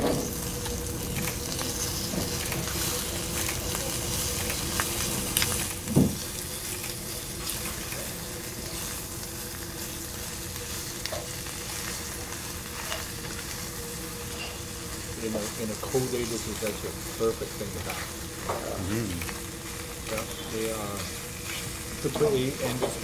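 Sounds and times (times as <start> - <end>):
food sizzling in a hot stone bowl: 0.0 - 23.0.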